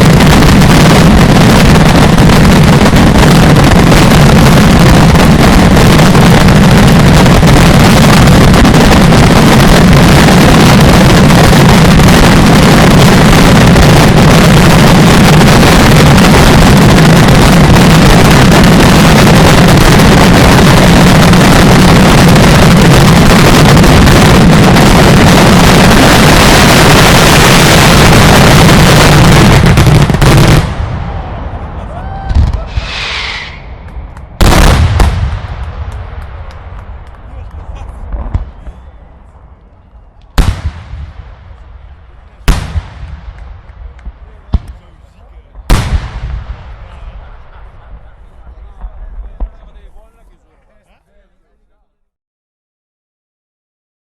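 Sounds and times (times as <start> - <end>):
fireworks barrage: 0.0 - 51.2.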